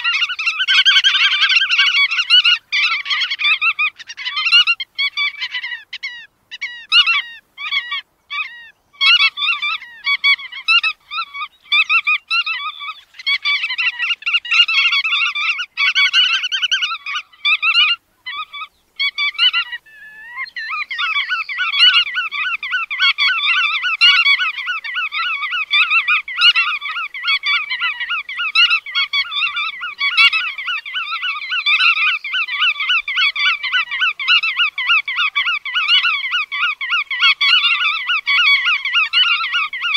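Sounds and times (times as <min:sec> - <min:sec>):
godwits calling: 0:00.0 - 0:39.9.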